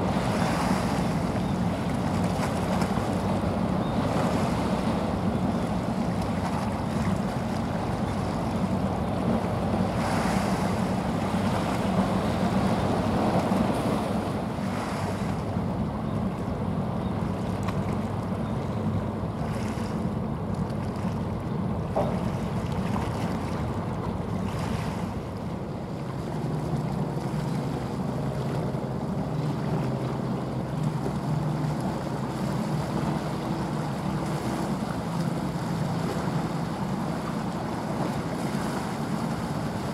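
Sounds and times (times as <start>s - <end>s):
ship diesel engine drone: 0.0s - 39.9s
water rushing along hull: 0.0s - 39.9s.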